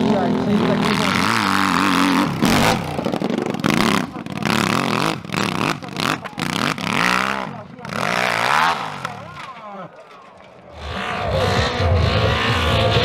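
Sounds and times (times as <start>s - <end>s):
dirt bike engine revving: 0.0s - 9.5s, 10.7s - 13.0s.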